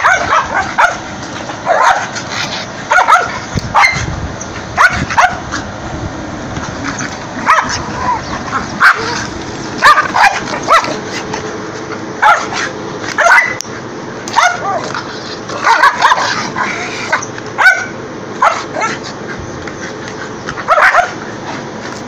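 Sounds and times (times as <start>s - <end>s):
dogs barking and yipping: 0.0s - 5.8s, 6.5s - 22.0s.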